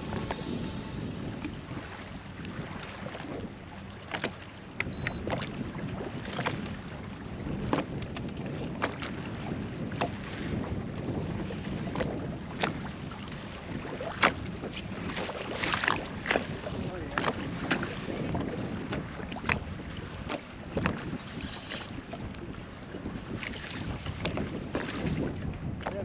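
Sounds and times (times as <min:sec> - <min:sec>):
wind buffeting microphone: 0:00.0 - 0:26.0
water against boat hull: 0:01.4 - 0:26.0.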